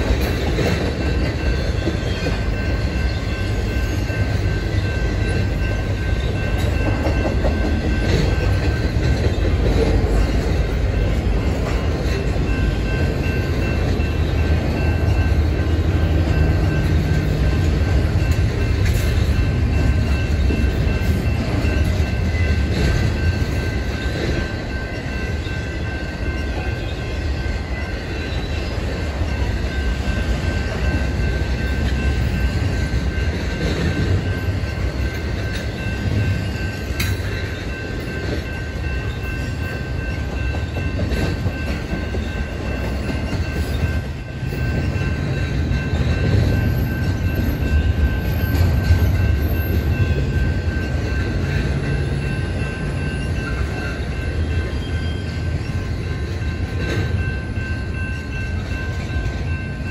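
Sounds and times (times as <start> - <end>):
freight train rumbling past: 0.0 - 59.9
high ringing tone: 0.9 - 59.9.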